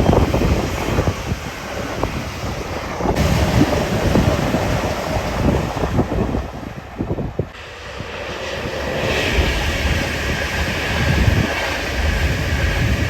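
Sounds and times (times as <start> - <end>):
passing train rumble: 0.0 - 13.0
wind buffeting microphone: 0.0 - 13.0.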